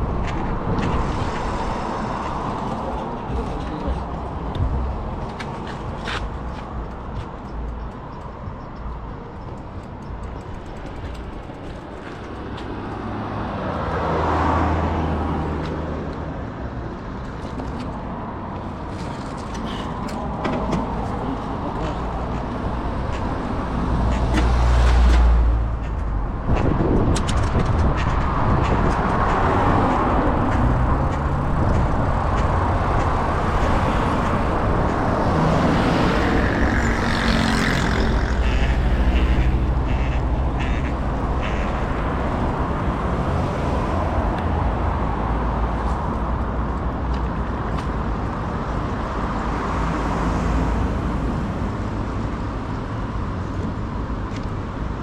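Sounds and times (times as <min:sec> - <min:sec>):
cars and trucks passing: 0:00.0 - 0:55.0.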